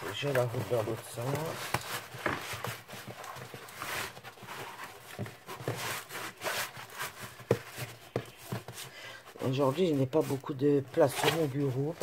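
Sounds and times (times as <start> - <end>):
canvas rubbing against wood: 0.0 - 12.0.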